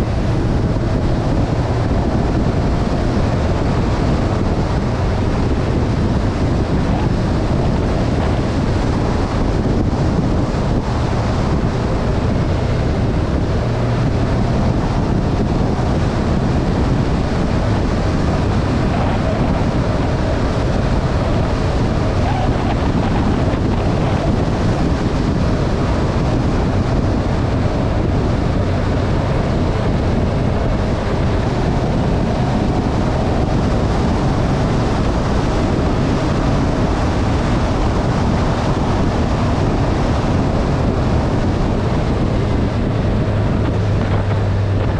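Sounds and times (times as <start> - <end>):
motorbike engine drone: 0.0 - 44.9
wind rush on microphone: 0.0 - 44.9.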